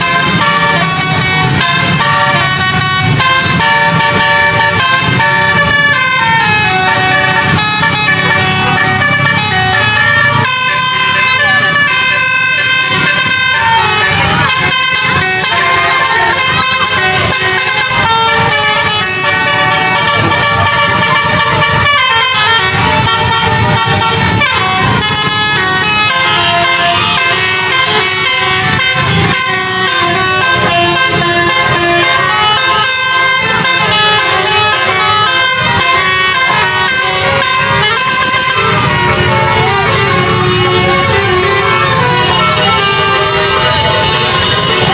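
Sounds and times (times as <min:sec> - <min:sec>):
multi-tone bus air horns playing tune: 0:00.0 - 0:44.9.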